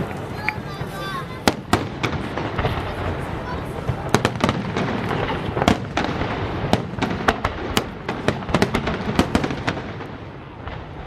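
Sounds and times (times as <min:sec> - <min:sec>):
fireworks crackling and rumbling: 0:00.0 - 0:11.0
sharp firework bangs: 0:00.0 - 0:11.0.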